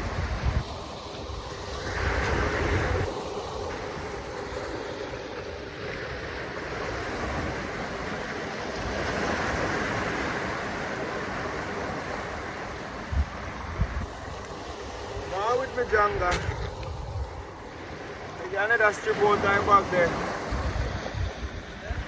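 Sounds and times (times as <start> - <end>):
wind buffeting microphone: 0.0 - 18.6, 19.2 - 22.0
water rushing: 0.0 - 22.0.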